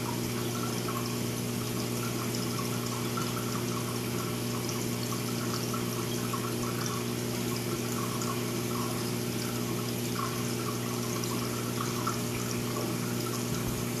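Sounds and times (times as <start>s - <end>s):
pump hum: 0.0s - 14.0s
water trickling and splashing: 0.0s - 14.0s.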